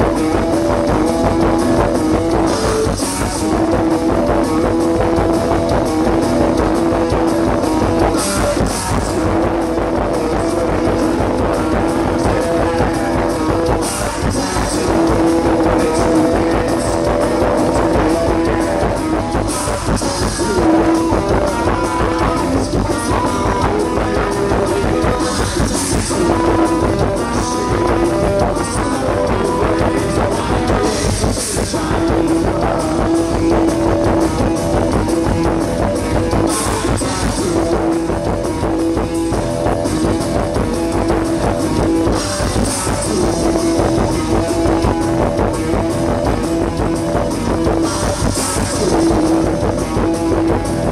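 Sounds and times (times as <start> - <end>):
drums: 0.0 - 50.9
loud band music: 0.0 - 50.9.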